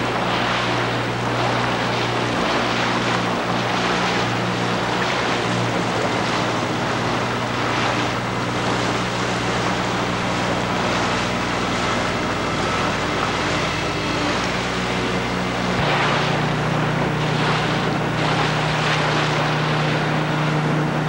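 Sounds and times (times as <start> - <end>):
motorboat engine droning: 0.0 - 21.0
water rushing past hull: 0.0 - 21.0.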